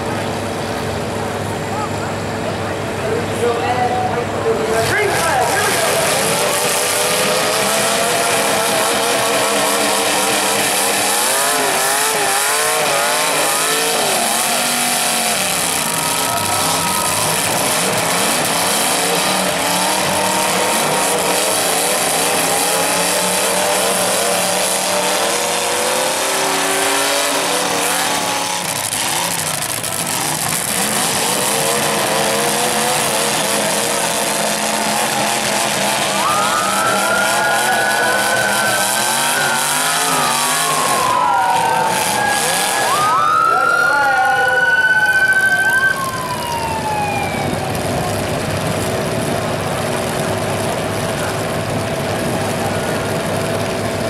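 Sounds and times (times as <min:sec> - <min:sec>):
car engines revving hard: 0:00.0 - 0:54.0
cars ramming: 0:00.0 - 0:54.0.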